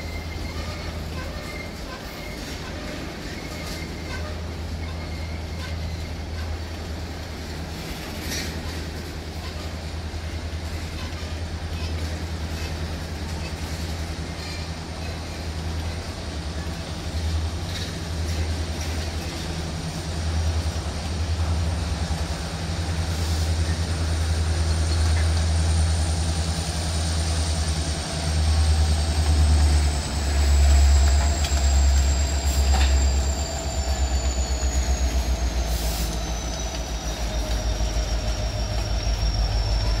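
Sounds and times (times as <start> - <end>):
high wheel flange squeal: 0.0 - 7.0, 13.5 - 40.0
diesel locomotive throbbing: 0.0 - 40.0
freight train rumbling past: 0.0 - 40.0.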